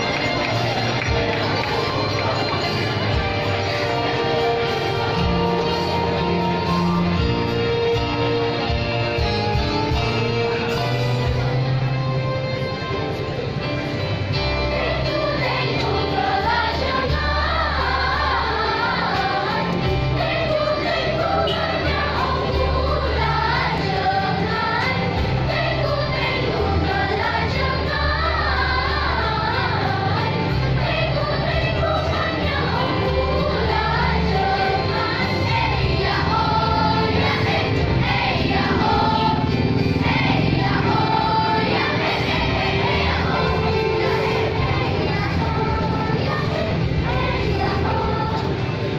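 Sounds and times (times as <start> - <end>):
children's choir singing: 0.0 - 12.0, 12.6 - 48.9.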